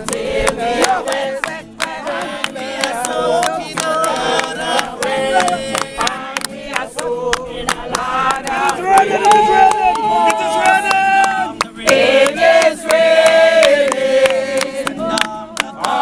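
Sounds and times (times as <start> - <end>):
crowd singing a hymn: 0.0 - 16.0
hand claps keeping time: 0.0 - 16.0.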